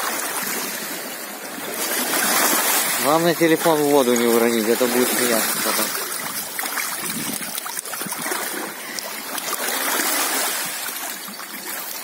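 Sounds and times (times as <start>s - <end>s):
sea water lapping over pebbles: 0.0s - 12.0s.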